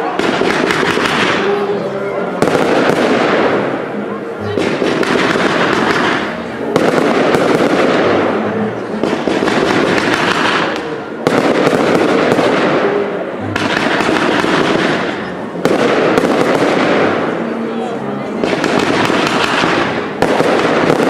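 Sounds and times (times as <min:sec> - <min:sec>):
fireworks hissing and crackling: 0:00.0 - 0:17.7, 0:18.4 - 0:21.0.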